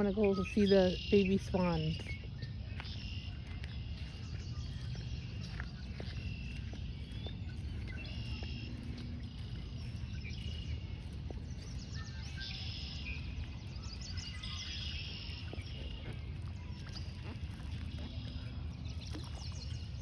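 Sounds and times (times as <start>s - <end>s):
high-pitched bird calls: 0.0s - 20.0s
low wind rumble: 0.0s - 20.0s.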